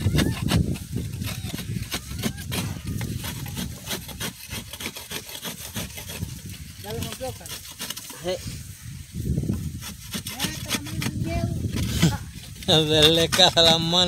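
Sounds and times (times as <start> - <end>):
hand tool scraping dry soil: 0.0 - 14.0.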